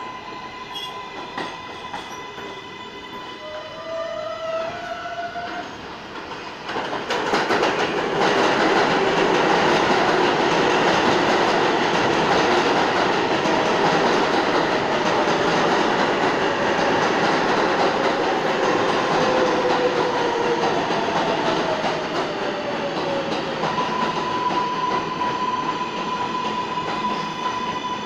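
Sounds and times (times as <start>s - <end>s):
subway train rising whine: 0.0s - 28.0s.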